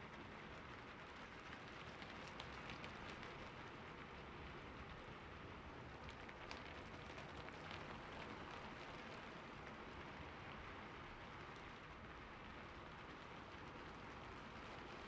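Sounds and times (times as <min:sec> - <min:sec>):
rain on a roof: 0:00.0 - 0:15.0.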